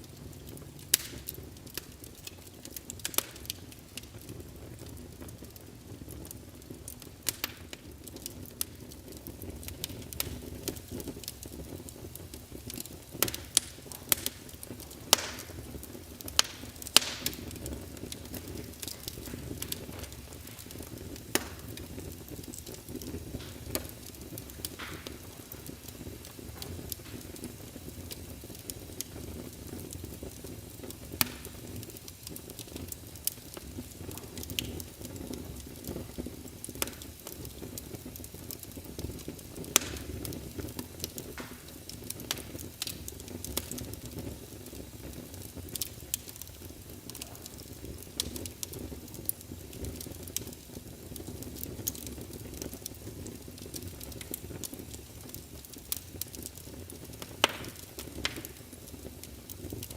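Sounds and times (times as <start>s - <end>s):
fire pops: 0.0s - 59.9s
low rumble of flames: 0.0s - 59.9s.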